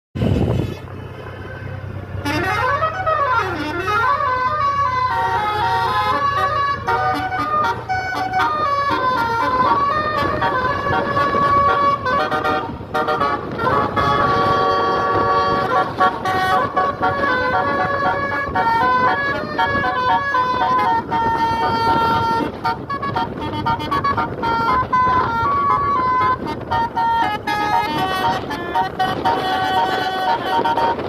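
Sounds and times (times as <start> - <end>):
bus engine humming: 0.2 - 31.0
musical air horn: 2.2 - 31.0.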